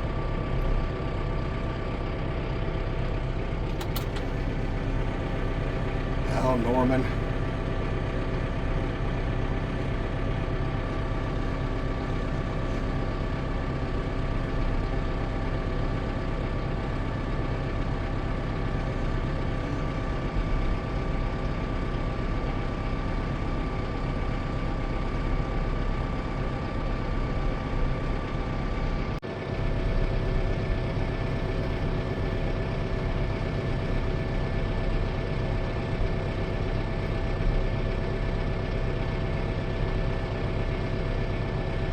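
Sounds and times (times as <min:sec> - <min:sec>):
heavy engine idling: 0:00.0 - 0:41.9.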